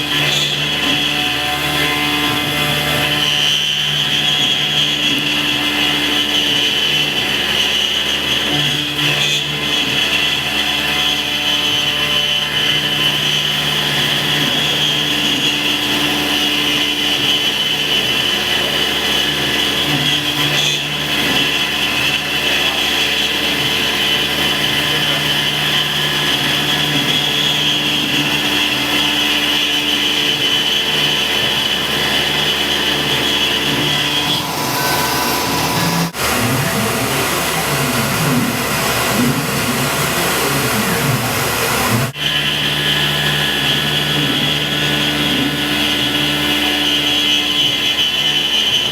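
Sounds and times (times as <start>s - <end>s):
low tone of cutting tool: 0.0s - 48.9s
milling machine spindle whine: 0.0s - 48.9s.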